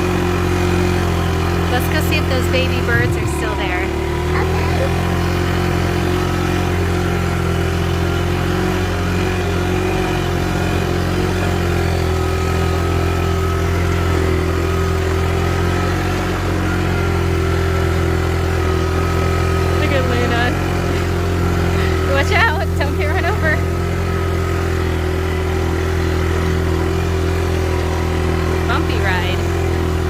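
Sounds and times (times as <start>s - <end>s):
small engine running steadily: 0.0s - 30.0s.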